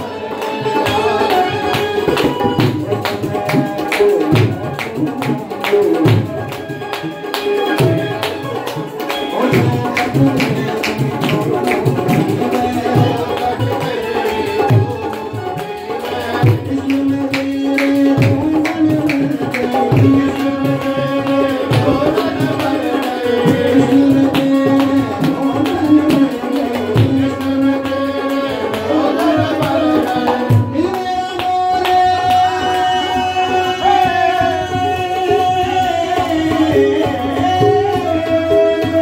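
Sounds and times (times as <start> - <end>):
harmonium notes: 0.0 - 39.0
man singing through microphone: 0.0 - 39.0
tabla beat: 0.0 - 39.0.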